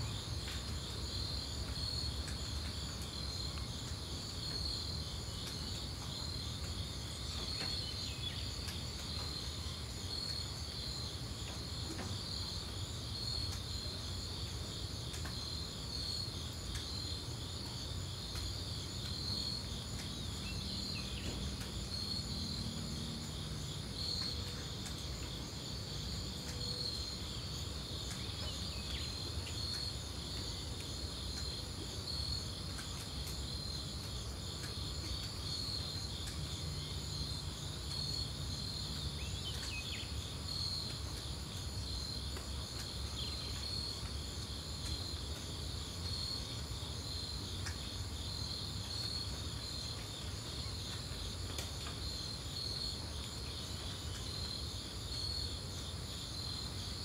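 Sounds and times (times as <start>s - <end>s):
insects pulsing trill: 0.0s - 57.0s
thin continuous buzz: 0.0s - 57.0s.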